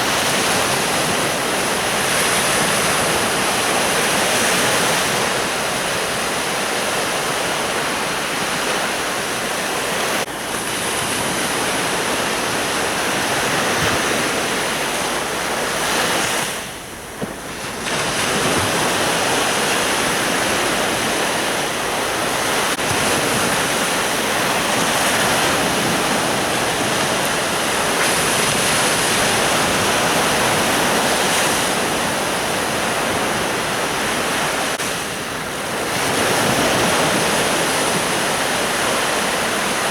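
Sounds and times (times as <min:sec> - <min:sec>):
sea surf washing onto beach: 0:00.0 - 0:39.9.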